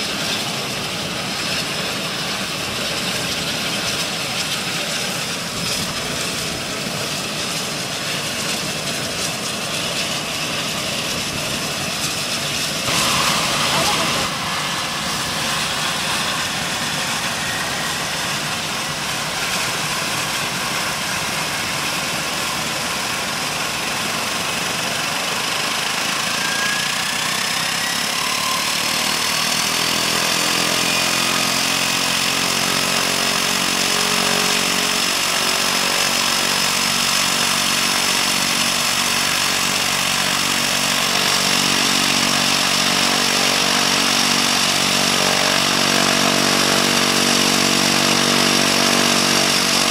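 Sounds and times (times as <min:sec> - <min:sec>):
propeller turning: 0:00.0 - 0:28.2, 0:28.8 - 0:49.9
turboprop engine starting up: 0:00.0 - 0:49.9.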